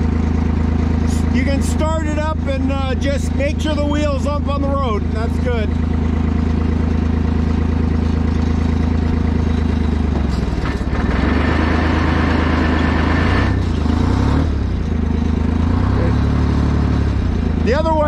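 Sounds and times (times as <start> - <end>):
forklift engine running under load: 0.0 - 18.0.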